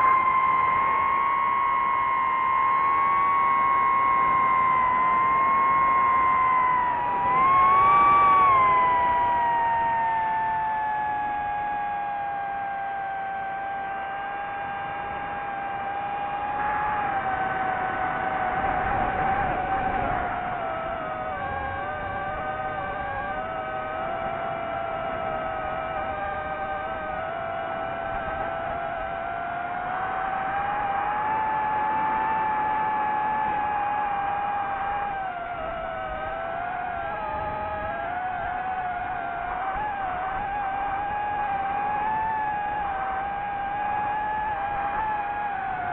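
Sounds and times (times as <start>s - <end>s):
drone motors and propellers whining: 0.0s - 45.9s.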